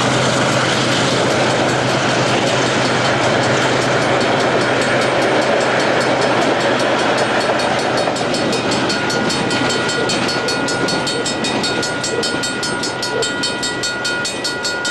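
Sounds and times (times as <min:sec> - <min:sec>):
train rumbling: 0:00.0 - 0:14.9
train wheels clicking: 0:00.0 - 0:14.9.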